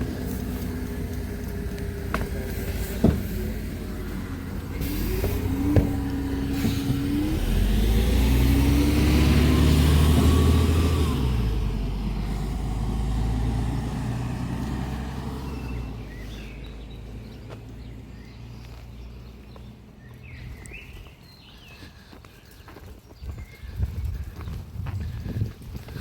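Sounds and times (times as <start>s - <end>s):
vehicle engine passing by: 0.0s - 21.6s.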